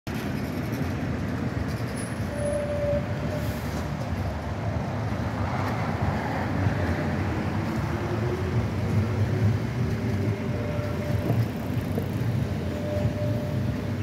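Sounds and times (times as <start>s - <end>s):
street traffic: 0.0s - 14.0s
tram rumbling on rails: 0.1s - 14.0s.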